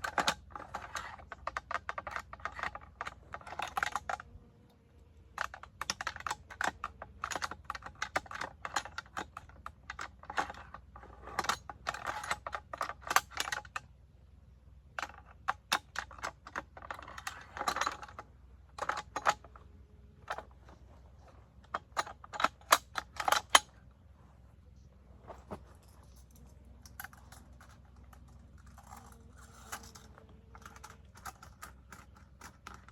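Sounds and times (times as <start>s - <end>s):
machine gun parts clicking: 0.0s - 4.3s, 5.3s - 13.8s, 15.0s - 23.9s, 25.3s - 32.9s.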